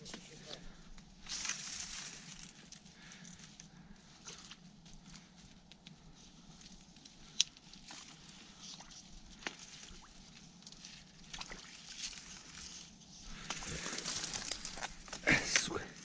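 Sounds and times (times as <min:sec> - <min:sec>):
dry reeds rustling and crackling: 0:00.0 - 0:16.0.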